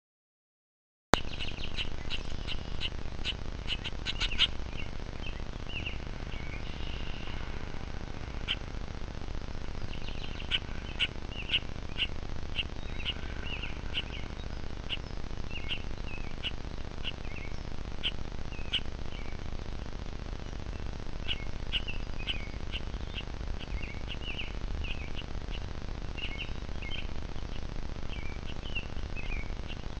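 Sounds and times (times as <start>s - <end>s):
birds chirping: 1.2s - 30.0s
low background noise: 1.2s - 30.0s.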